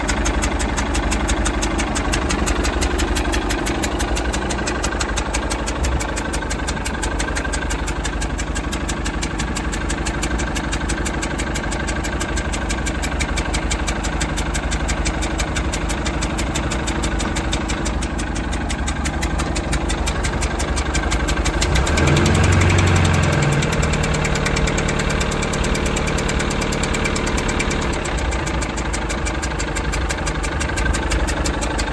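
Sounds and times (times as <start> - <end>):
boat engine idling: 0.0 - 31.9
rapid engine ticking: 0.0 - 31.9.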